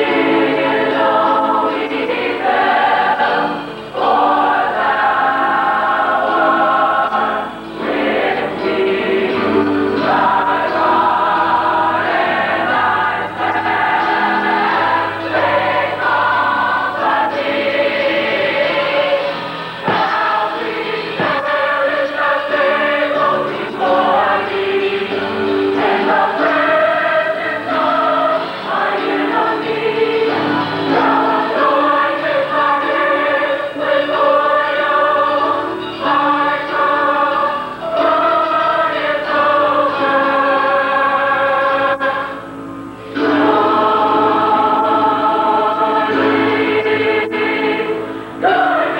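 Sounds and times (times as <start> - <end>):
gospel choir singing in harmony: 0.0 - 48.9.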